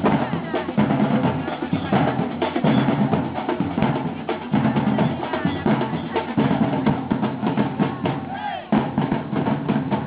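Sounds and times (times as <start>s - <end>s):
drum and percussion music: 0.0s - 10.0s.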